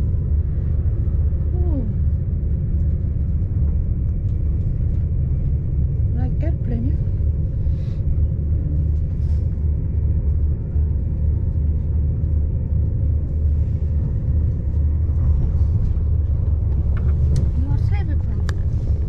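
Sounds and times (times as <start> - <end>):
train carriage low rumble: 0.0 - 19.0.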